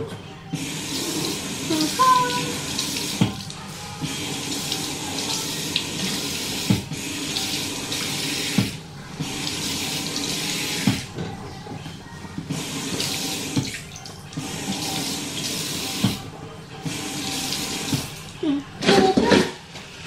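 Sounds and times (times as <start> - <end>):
tap water running into sink: 0.6 - 11.3, 12.4 - 18.4.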